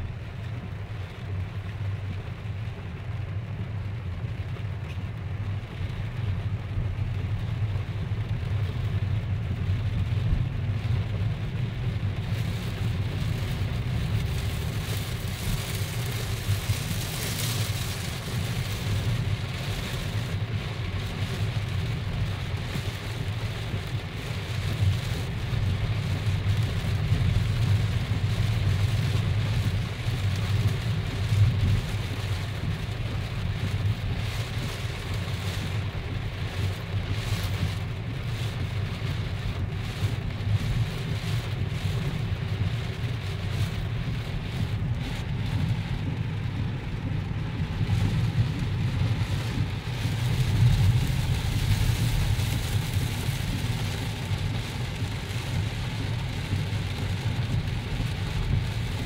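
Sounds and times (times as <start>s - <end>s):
heavy rain on car windshield: 0.0s - 59.0s
low road and engine rumble: 0.0s - 59.0s.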